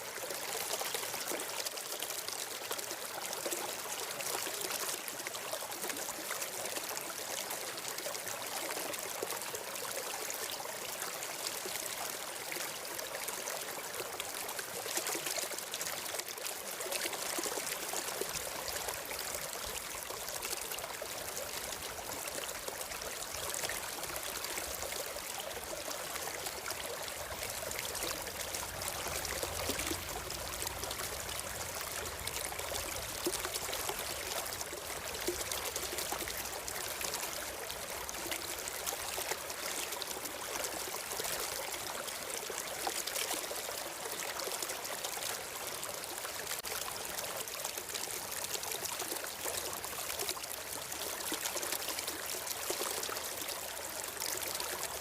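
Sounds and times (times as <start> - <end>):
stream of water trickling: 0.0 - 55.0.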